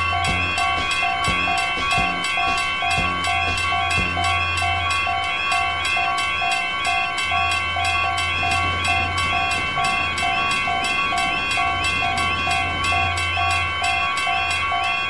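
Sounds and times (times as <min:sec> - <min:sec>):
railroad crossing bells ringing: 0:00.0 - 0:15.0
two-tone electronic alarm: 0:00.0 - 0:15.0.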